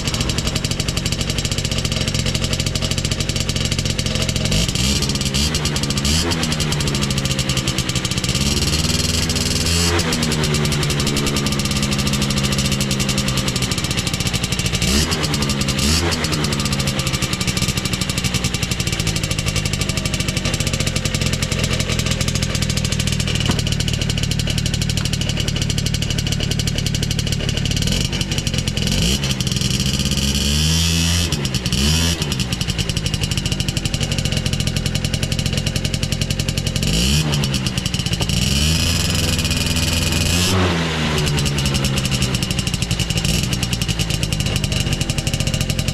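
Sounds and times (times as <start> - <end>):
two-stroke motorcycle engine idling: 0.0 - 45.9.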